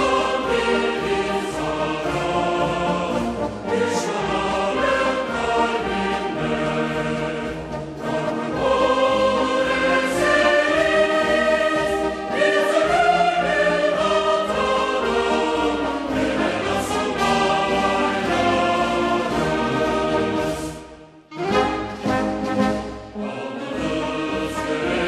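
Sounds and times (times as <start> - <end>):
slow choral and orchestral music: 0.0 - 25.0.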